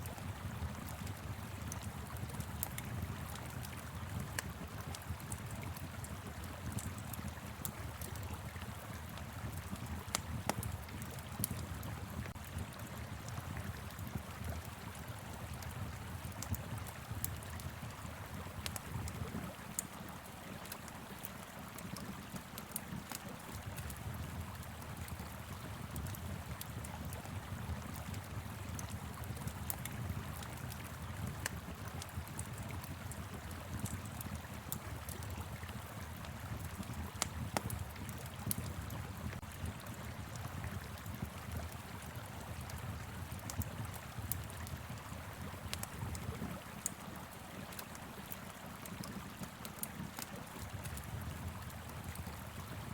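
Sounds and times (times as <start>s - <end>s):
wood fire crackling: 0.1s - 52.9s.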